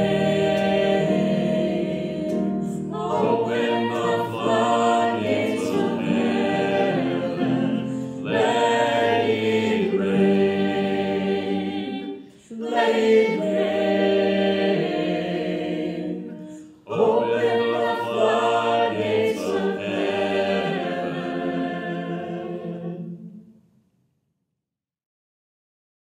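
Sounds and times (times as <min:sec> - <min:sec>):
church choir singing: 0:00.0 - 0:23.6.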